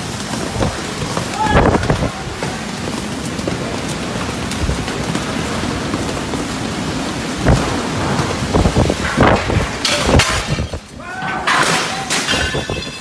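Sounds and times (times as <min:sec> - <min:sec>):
strong wind gusts: 0:00.0 - 0:11.5
heavy rain pouring: 0:00.0 - 0:13.0.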